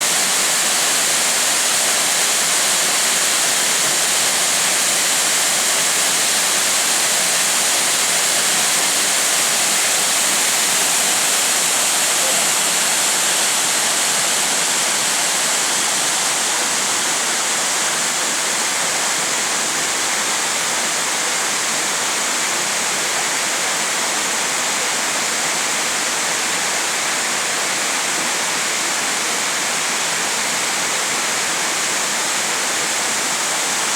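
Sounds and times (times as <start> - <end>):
waterfall hissing: 0.0 - 33.9.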